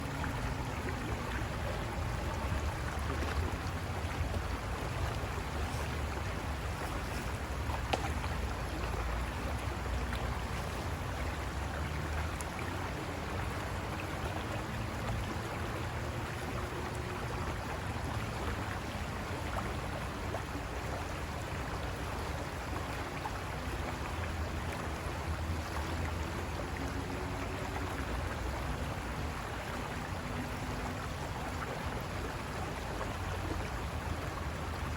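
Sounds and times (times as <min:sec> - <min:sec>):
faint wavering hum: 0:00.0 - 0:34.9
river water rushing over rocks: 0:00.0 - 0:34.9.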